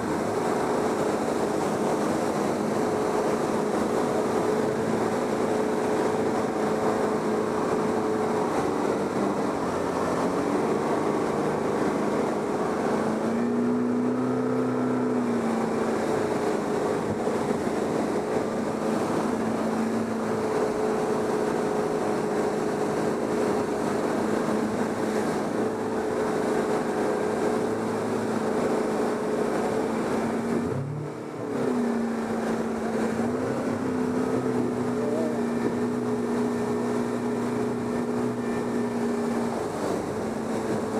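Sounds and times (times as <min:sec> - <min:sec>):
motorboat engine running: 0:00.0 - 0:40.9
water rushing: 0:00.0 - 0:40.9.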